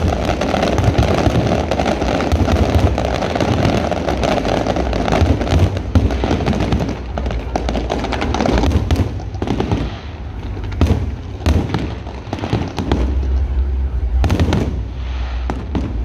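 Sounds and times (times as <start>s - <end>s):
heavy firework booms: 0.0s - 13.3s, 14.1s - 16.0s
fireworks bursting and crackling: 0.0s - 16.0s.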